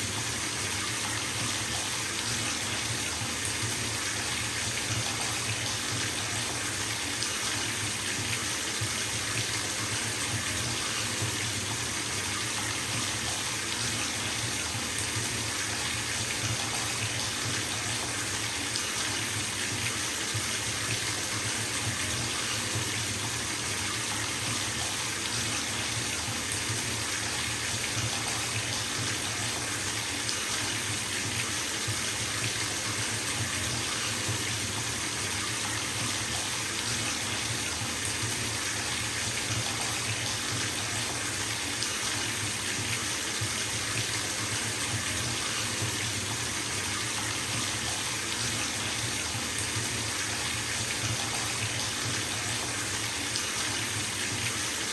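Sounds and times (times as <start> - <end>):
water pouring into bathtub: 0.0 - 54.9.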